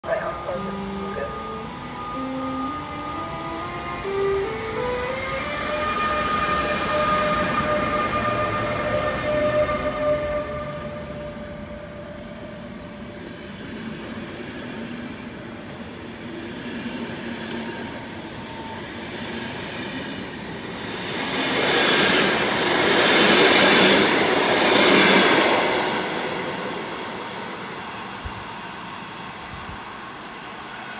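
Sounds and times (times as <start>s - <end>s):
train rolling on rails: 0.0s - 30.9s.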